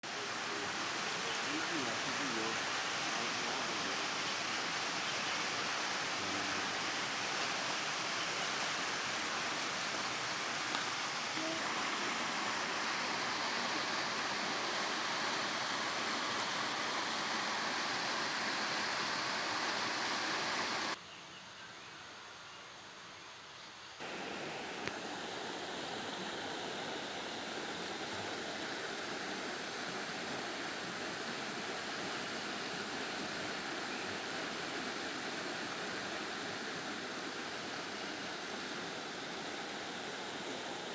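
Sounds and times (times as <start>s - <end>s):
flowing water rushing: 0.0s - 21.0s, 24.0s - 40.9s.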